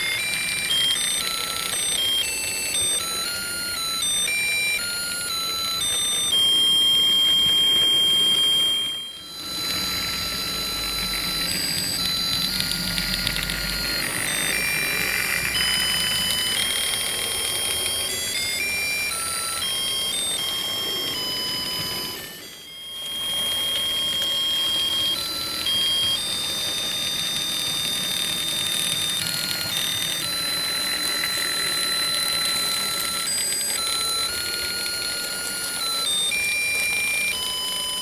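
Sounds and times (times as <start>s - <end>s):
electronic beeping tune: 2.8s - 38.0s.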